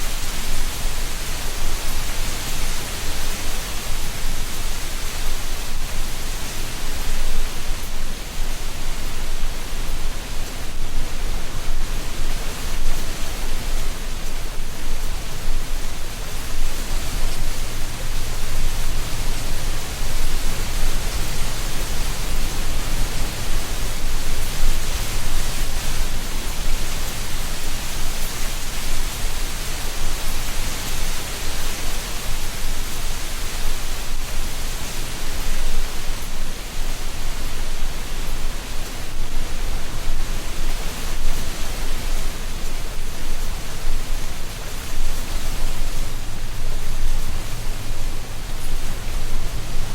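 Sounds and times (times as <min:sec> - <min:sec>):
wind rustling dry leaves: 0:00.0 - 0:49.9.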